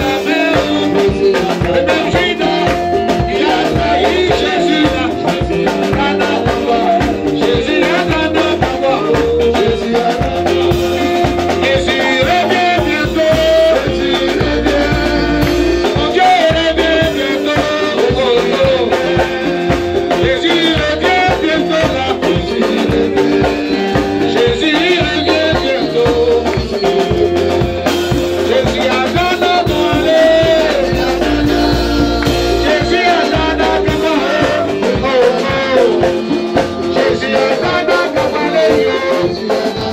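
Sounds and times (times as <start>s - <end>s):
band playing with steady beat: 0.0s - 39.9s
man singing into a microphone: 0.0s - 39.9s.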